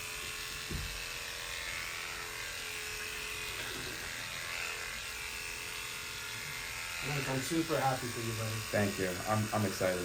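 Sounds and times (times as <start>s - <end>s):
electric hair clippers buzzing: 0.0s - 10.0s.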